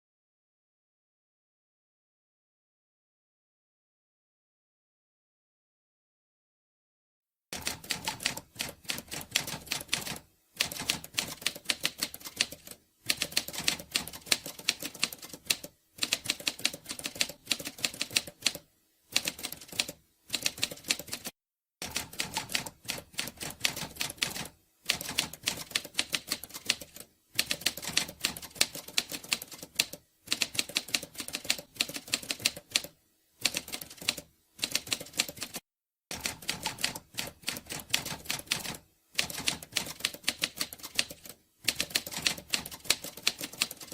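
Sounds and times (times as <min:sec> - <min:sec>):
rapid keyboard typing: 0:07.5 - 0:43.9.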